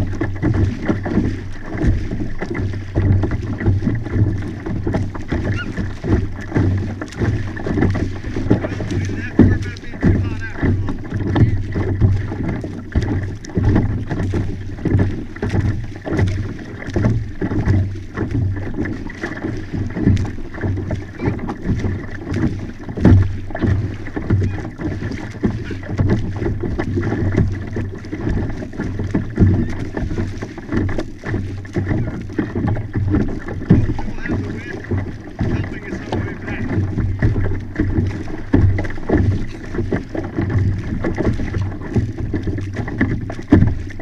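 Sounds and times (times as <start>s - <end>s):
constant low rumble: 0.0s - 44.0s
water slapping against kayak hull: 0.0s - 44.0s.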